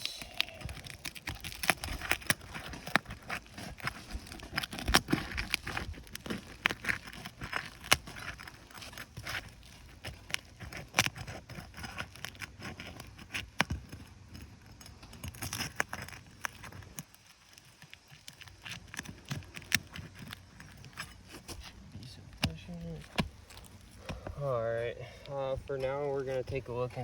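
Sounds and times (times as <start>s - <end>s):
shingles crackling and scraping: 0.1s - 27.0s.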